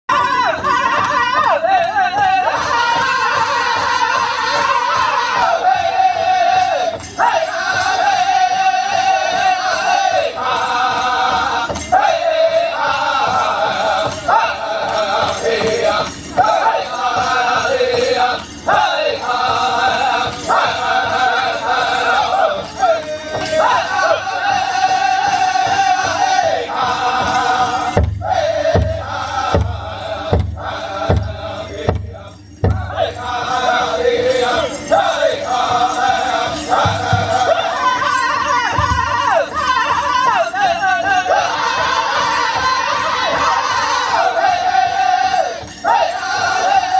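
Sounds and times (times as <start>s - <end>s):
men singing in high unison: 0.1s - 46.9s
steady drumbeat: 0.1s - 46.9s.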